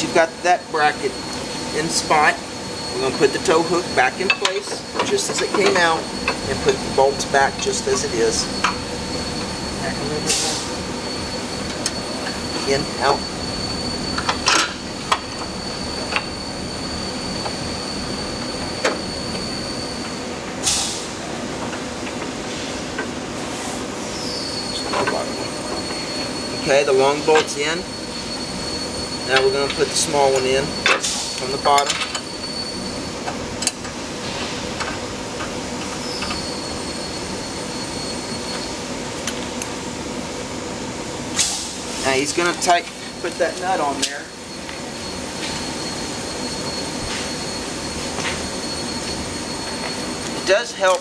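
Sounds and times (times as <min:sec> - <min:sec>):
background hum and hiss: 0:00.0 - 0:51.0
thin high whine: 0:00.0 - 0:51.0
workshop noise: 0:00.0 - 0:51.0.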